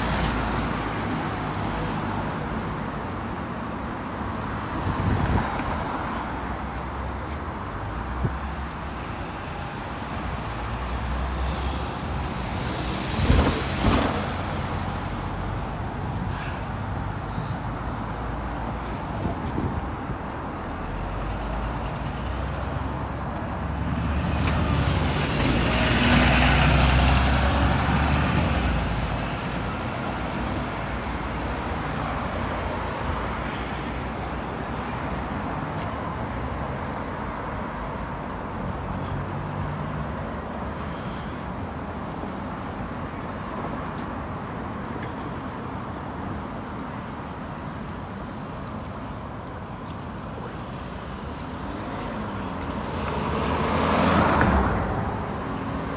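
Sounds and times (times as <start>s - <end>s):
steady traffic noise: 0.0s - 55.9s.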